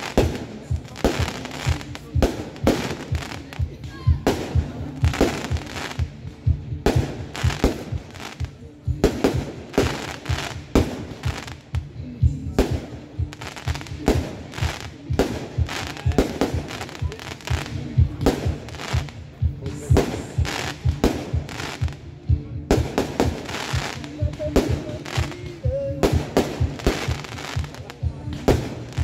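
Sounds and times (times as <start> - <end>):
fireworks bangs and cracks: 0.0 - 11.9, 12.5 - 22.0, 22.7 - 29.0
music playing: 0.0 - 29.0.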